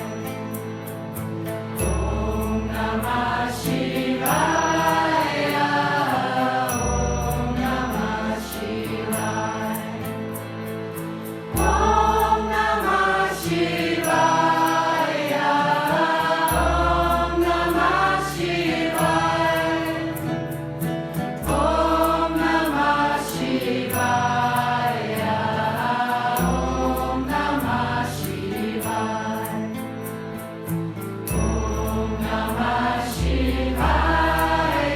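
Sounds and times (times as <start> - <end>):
group chanting devotional music: 1.6 - 34.9.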